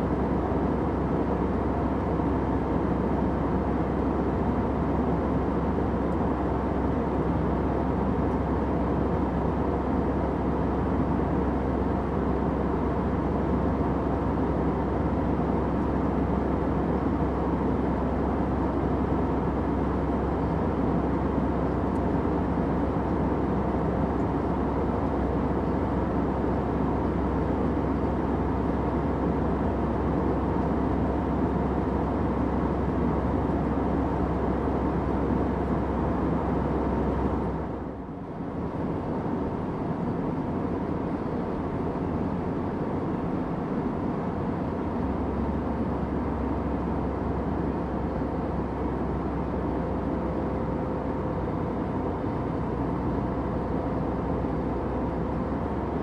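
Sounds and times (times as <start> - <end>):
airplane engine rumble: 0.0 - 56.0.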